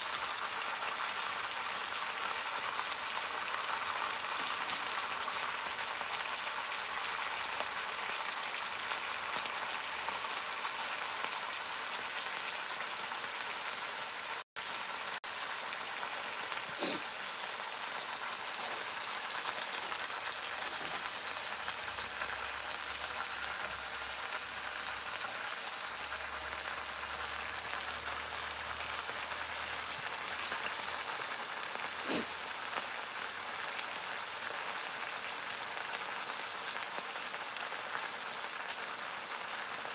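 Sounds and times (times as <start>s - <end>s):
meat frying crackling sizzle: 0.0s - 39.9s.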